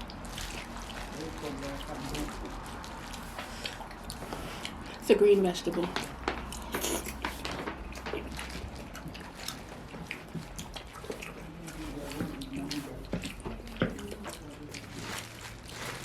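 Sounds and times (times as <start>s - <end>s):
wet chewing and smacking: 0.0s - 16.0s.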